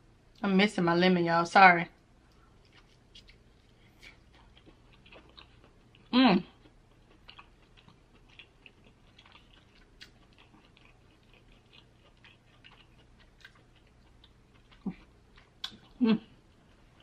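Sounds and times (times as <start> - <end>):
mouth chewing sounds: 2.3 - 17.0.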